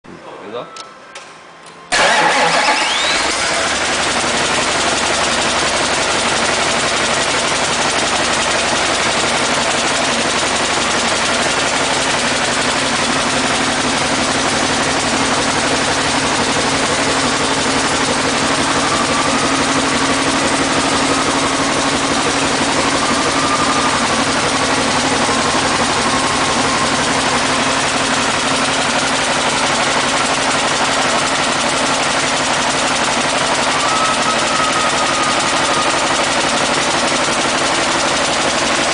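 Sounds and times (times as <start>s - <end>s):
diesel truck engine idling: 2.0s - 38.9s.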